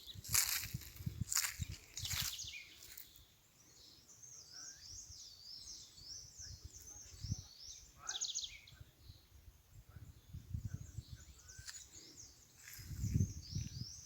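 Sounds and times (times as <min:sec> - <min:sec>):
songbird singing: 0:00.0 - 0:14.0.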